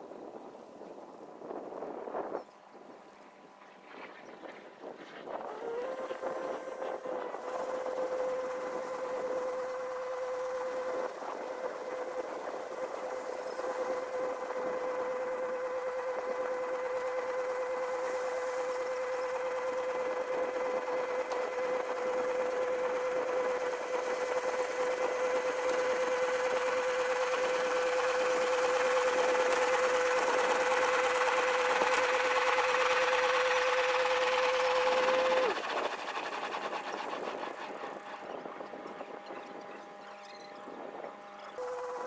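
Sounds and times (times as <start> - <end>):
tractor running baler whining: 3.8 - 42.0.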